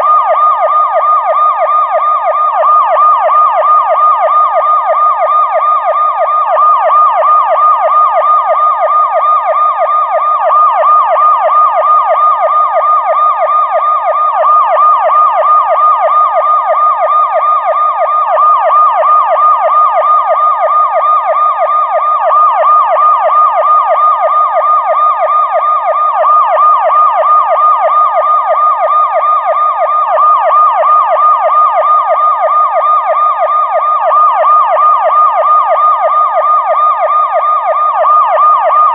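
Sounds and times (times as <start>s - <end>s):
police siren yelp: 0.0s - 38.9s.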